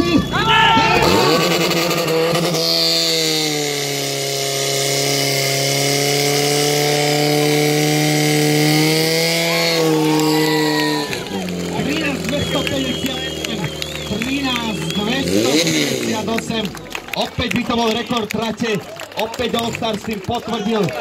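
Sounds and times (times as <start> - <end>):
pump engine revving: 0.0 - 21.0.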